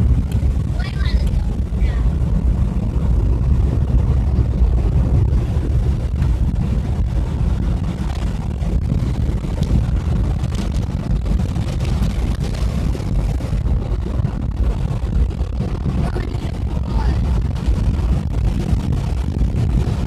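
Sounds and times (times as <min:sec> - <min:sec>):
road noise rumble: 0:00.0 - 0:20.0
wind buffeting through car windows: 0:00.0 - 0:20.0.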